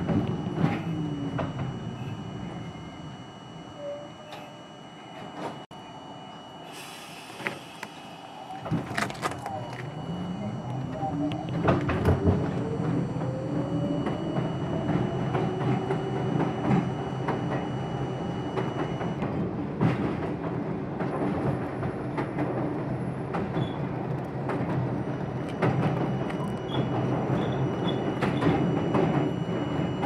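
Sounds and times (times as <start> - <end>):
subway motor whine rising: 0.0 - 30.0.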